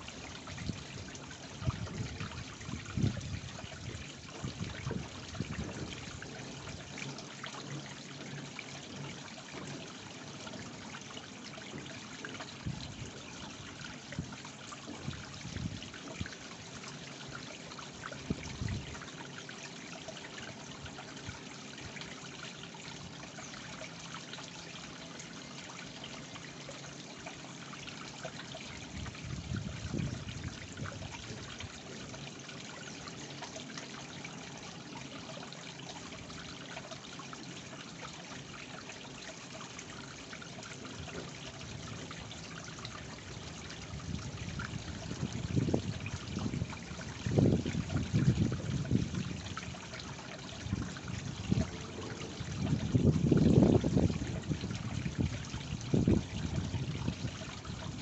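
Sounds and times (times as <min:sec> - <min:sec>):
waterfall splashing into pond: 0:00.0 - 0:58.0.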